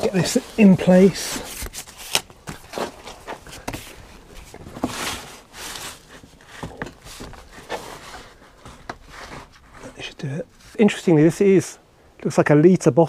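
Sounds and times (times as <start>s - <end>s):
hands handling cardboard: 0.0s - 11.4s.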